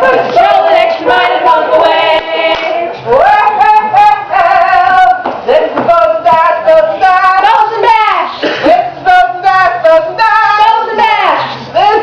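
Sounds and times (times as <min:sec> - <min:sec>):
women singing unaccompanied: 0:00.0 - 0:12.0.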